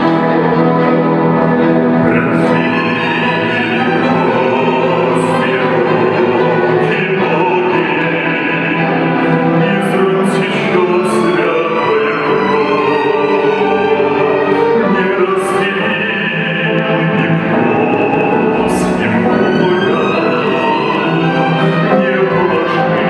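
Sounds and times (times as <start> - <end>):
operatic singing: 0.0 - 23.0
orchestral accompaniment: 0.0 - 23.0.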